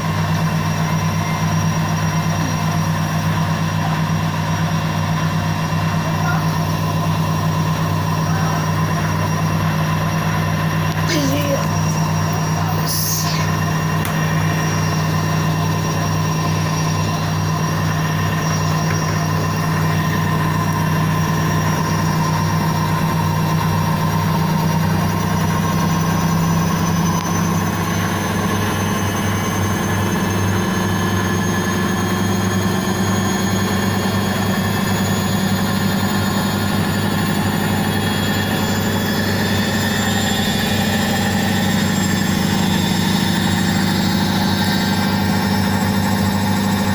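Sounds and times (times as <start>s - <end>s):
washing machine spinning: 0.0s - 46.9s.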